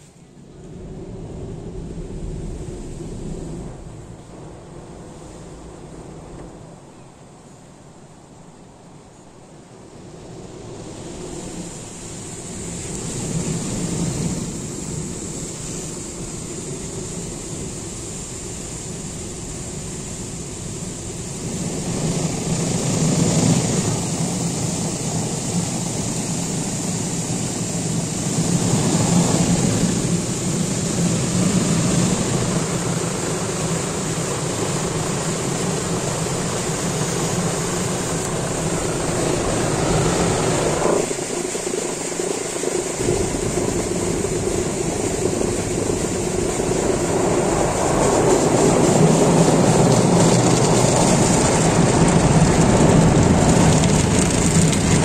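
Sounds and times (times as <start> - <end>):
car wash machinery drone: 0.0 - 55.0
water spraying on car: 10.2 - 55.0.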